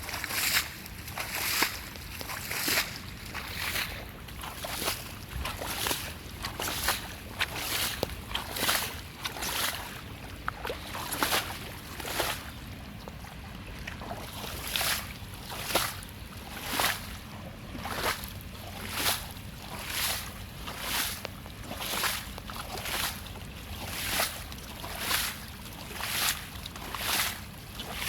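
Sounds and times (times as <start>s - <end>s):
swishing splashes in water: 0.0s - 28.0s.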